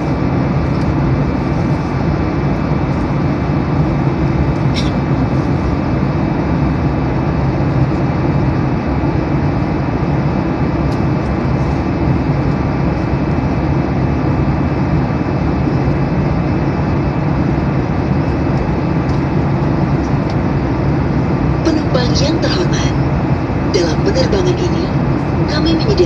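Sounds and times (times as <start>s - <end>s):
airliner cabin roar: 0.0s - 26.0s
faint steady hum: 0.0s - 26.0s.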